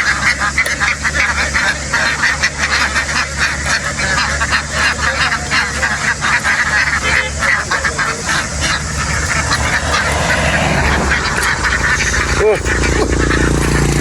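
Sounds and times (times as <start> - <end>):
ducks quacking: 0.0 - 14.0
steady low hum: 1.2 - 14.0.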